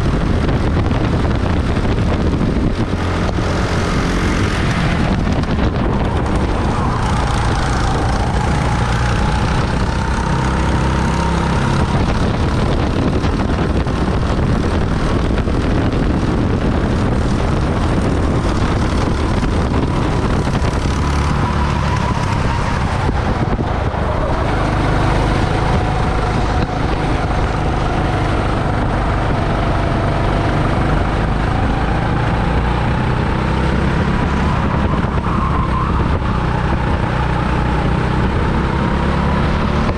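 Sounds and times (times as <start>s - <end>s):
wind rushing: 0.0s - 39.9s
go-kart motor whining: 3.0s - 39.9s.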